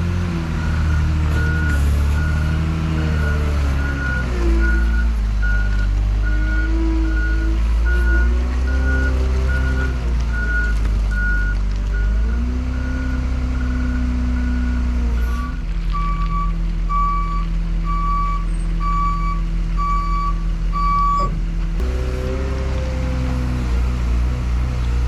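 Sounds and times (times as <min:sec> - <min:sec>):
heavy vehicle engine running: 0:00.0 - 0:25.0.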